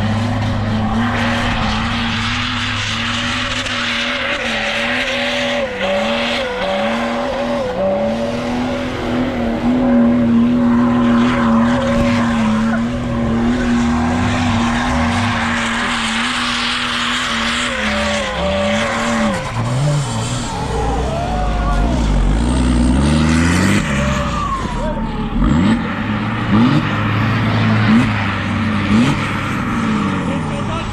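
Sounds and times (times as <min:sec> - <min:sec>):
engine at high revs: 0:00.0 - 0:30.9.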